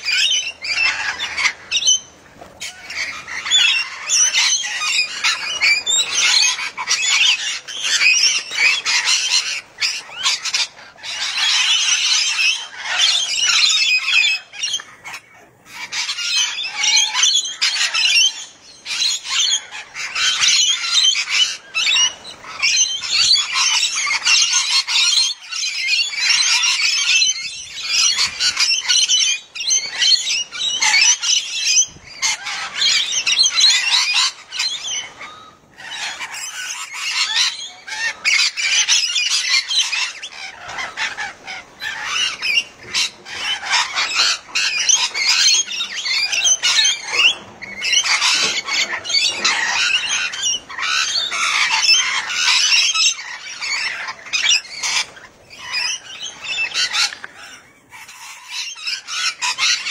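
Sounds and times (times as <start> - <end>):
lorikeets screeching and chattering: 0.0 - 59.9.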